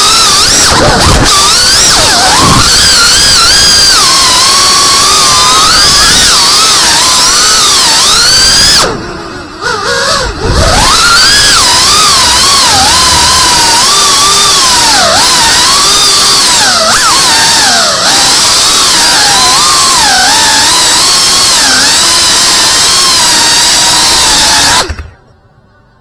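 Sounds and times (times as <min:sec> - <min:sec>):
drone motors whining: 0:00.0 - 0:25.5.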